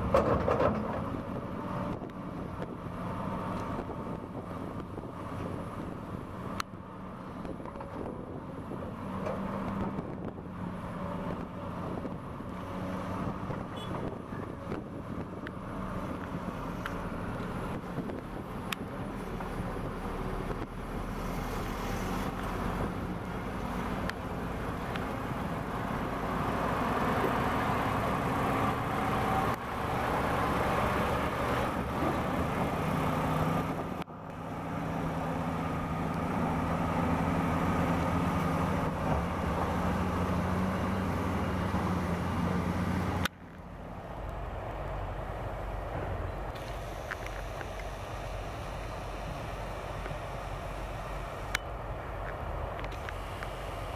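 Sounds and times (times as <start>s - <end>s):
truck diesel engine passing: 0.0s - 53.9s.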